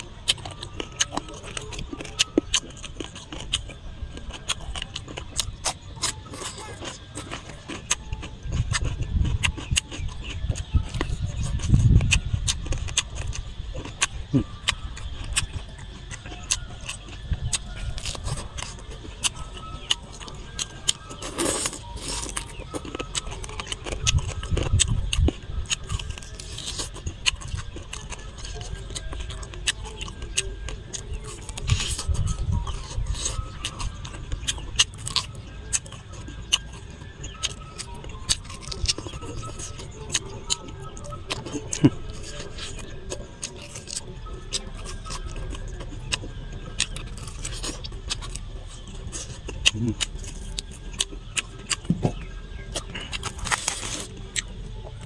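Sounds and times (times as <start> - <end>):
crunchy chewing with mouth clicks: 0.0 - 55.0.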